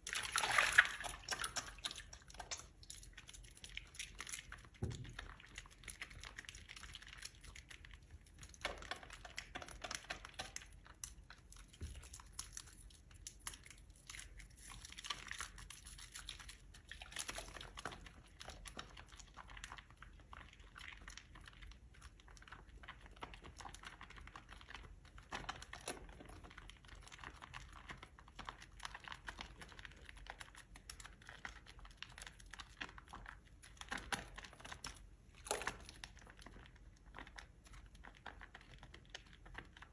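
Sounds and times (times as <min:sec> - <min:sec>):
wet soap squishing: 0:00.0 - 0:39.9.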